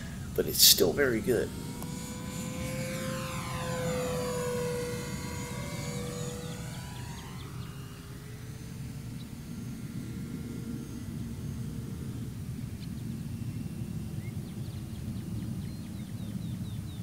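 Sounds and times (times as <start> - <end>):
model plane motor whine: 0.0 - 17.0.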